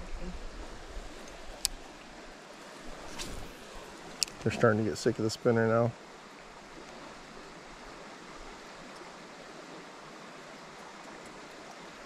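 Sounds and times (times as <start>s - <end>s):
flowing creek: 0.0s - 12.0s.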